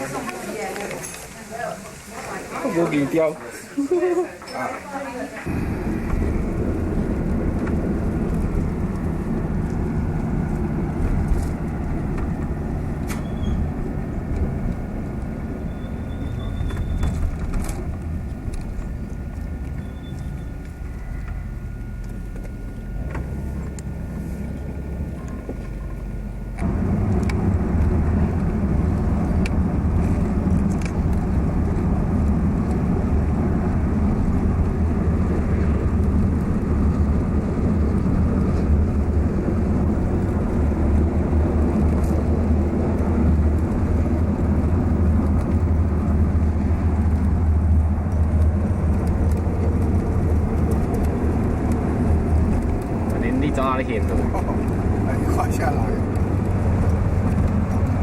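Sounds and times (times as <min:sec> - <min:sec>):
car engine and road noise: 0:04.9 - 0:58.0.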